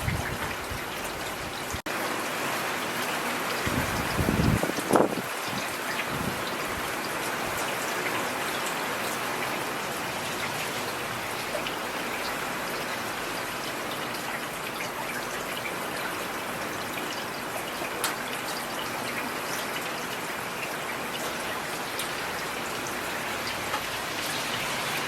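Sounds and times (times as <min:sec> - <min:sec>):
rain falling on a street: 0:00.0 - 0:25.0.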